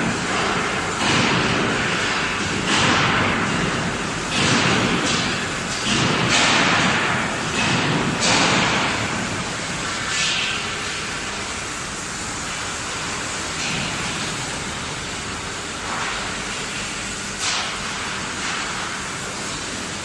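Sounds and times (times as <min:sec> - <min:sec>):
factory hall hum: 0:00.0 - 0:20.0.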